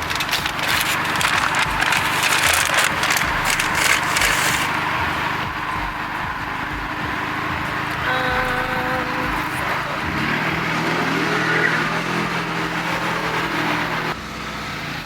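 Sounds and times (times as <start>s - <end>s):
crackling rustling hiss: 0.0s - 14.2s
car cabin engine and road rumble: 0.0s - 15.0s.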